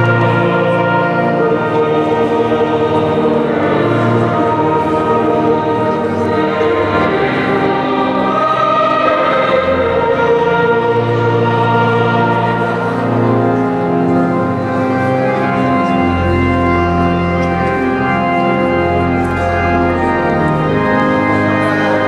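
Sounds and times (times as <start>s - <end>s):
choir singing: 0.0s - 18.3s
organ chords: 0.0s - 22.0s.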